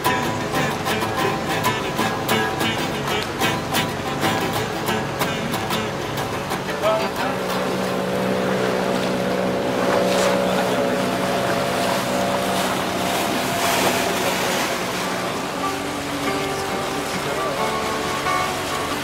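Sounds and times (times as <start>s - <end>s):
motorboat engine humming: 0.0s - 19.0s
water splashing along hull: 0.0s - 19.0s.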